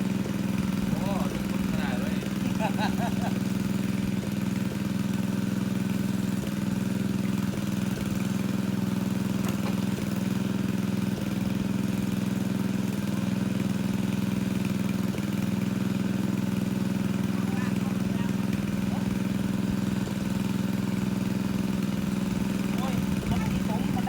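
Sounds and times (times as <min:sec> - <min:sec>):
water pump engine droning: 0:00.0 - 0:24.0.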